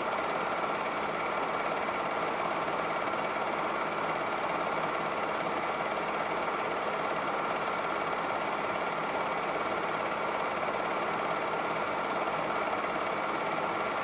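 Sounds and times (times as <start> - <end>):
film projector mechanism clattering: 0.0 - 14.0.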